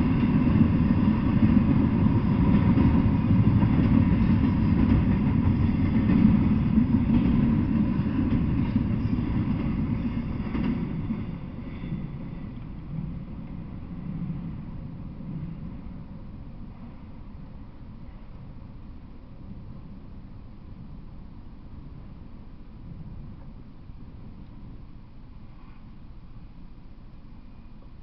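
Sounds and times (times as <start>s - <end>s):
freight train wheels rumbling: 0.0s - 25.5s.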